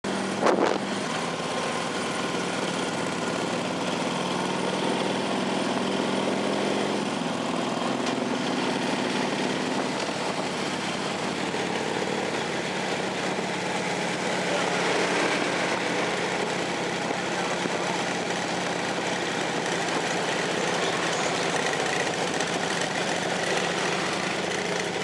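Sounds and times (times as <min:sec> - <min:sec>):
engines and tyres on road: 0:00.0 - 0:25.0.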